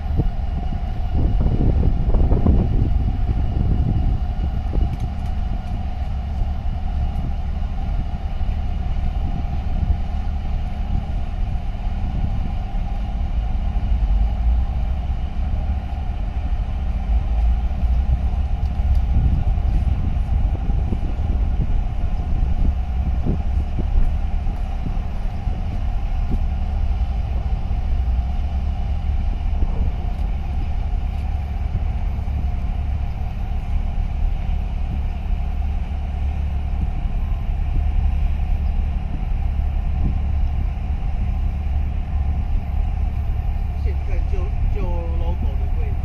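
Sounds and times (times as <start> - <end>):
ship engine rumble and hum: 0.0 - 46.0.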